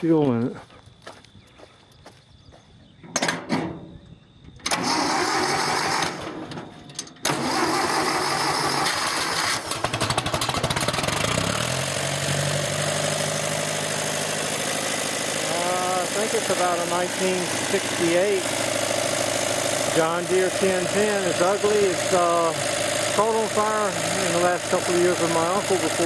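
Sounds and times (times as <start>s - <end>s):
tractor engine cranking and idling: 4.4s - 26.0s.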